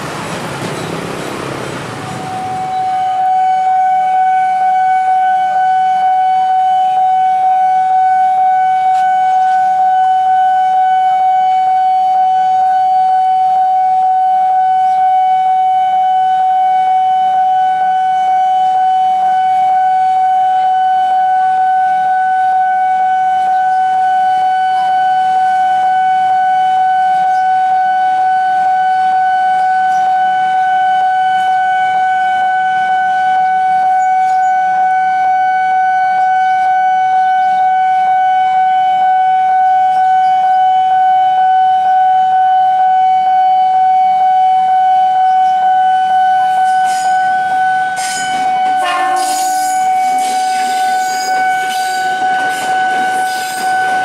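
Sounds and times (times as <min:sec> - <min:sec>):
level crossing warning tone: 0:00.0 - 0:54.0.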